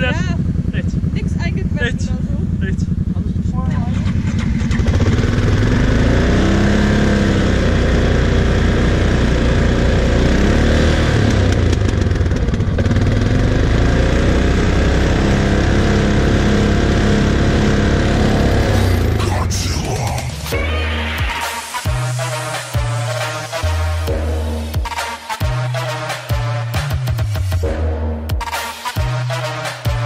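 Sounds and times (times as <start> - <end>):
quad engines revving: 0.0 - 24.8.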